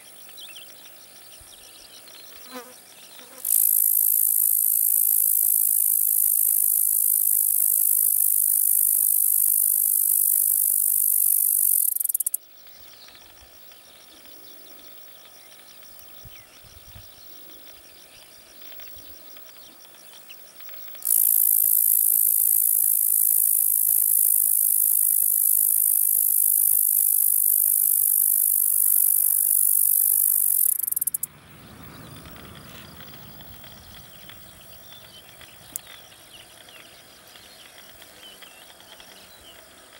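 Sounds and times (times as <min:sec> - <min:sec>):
bush cricket rasping buzz: 0:00.0 - 0:39.9.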